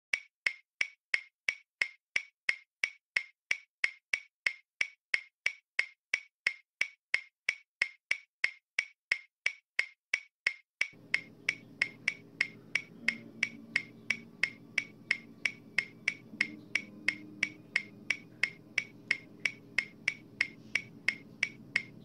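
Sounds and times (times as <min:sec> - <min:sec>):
steady ticking clicks: 0:00.1 - 0:22.0.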